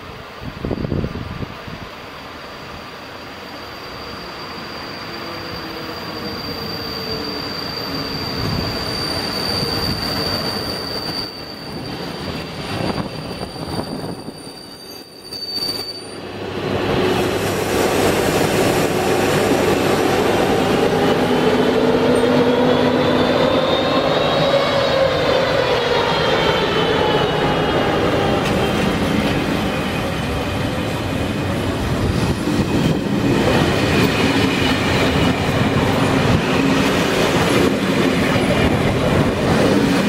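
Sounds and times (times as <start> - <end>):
train wheels squealing: 2.9 - 16.4, 19.0 - 40.0
locomotive traction whine: 3.3 - 40.0.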